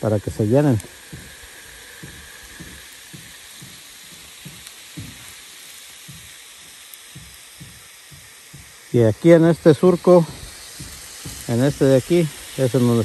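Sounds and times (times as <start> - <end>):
hose water spraying on soil: 0.0 - 13.0.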